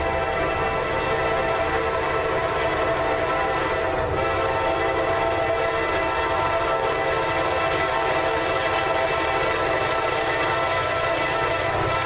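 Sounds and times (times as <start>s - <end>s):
locomotive air horn chord: 0.0s - 12.0s
train rumble: 0.0s - 12.0s.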